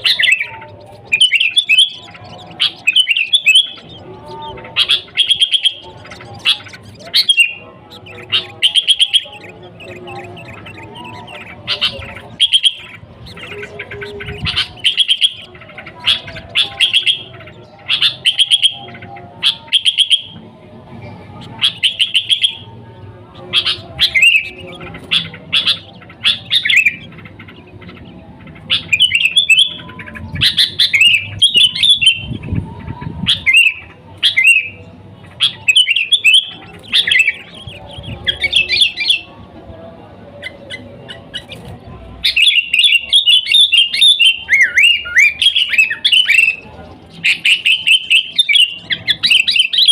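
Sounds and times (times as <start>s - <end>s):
bulbul singing chattering phrases: 0.0s - 49.9s.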